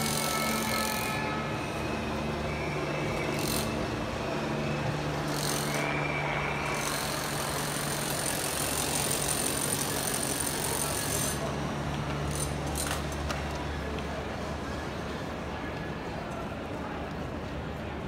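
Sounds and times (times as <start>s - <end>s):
murmur of street crowd: 0.0s - 18.0s.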